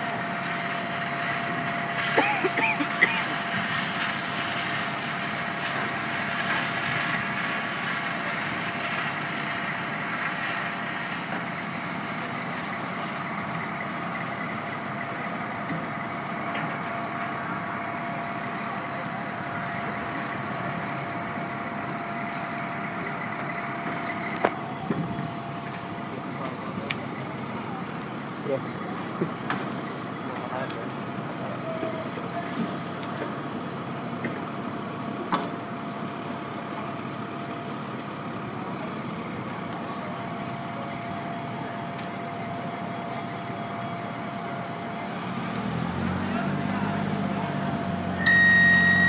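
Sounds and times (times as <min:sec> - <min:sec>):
diesel engine running: 0:00.0 - 0:49.0
steady whine: 0:00.0 - 0:49.0.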